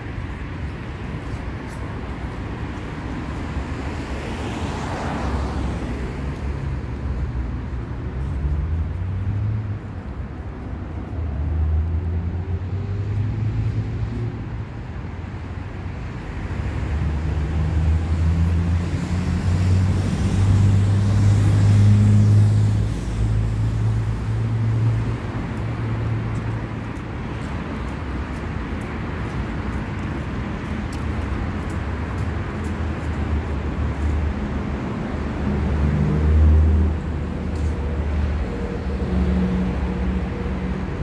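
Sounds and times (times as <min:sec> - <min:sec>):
vehicles passing with tyre noise: 0:00.0 - 0:41.0.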